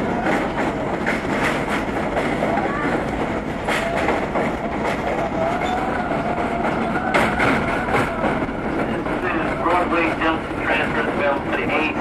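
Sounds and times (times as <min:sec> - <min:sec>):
subway train running on track: 0:00.0 - 0:12.0
wheels clicking over rail joints: 0:00.1 - 0:12.0.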